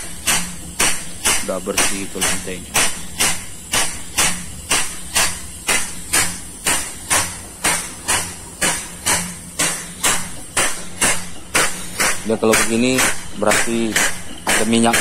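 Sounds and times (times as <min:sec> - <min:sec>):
air pump hissing puffs: 0:00.0 - 0:15.0.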